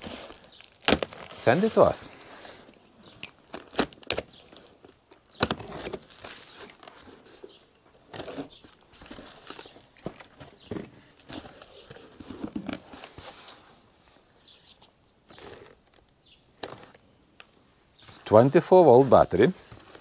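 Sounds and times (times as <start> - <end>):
cardboard and packing rustling: 0.0 - 17.0, 18.0 - 20.0.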